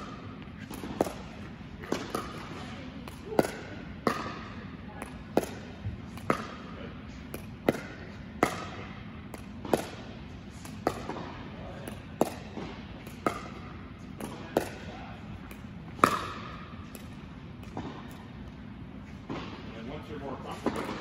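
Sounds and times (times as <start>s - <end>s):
paddles hitting plastic ball: 0.2s - 6.7s, 7.3s - 18.6s.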